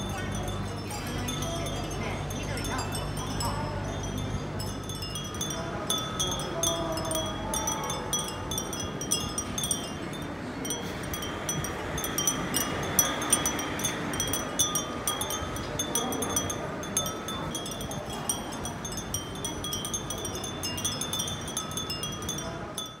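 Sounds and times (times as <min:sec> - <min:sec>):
glass wind chimes tinkling: 0:00.0 - 0:23.0.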